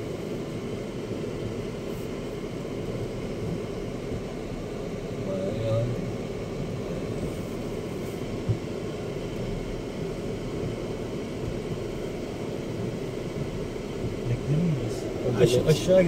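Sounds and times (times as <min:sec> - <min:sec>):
tyres and drivetrain rumble: 0:00.0 - 0:16.0.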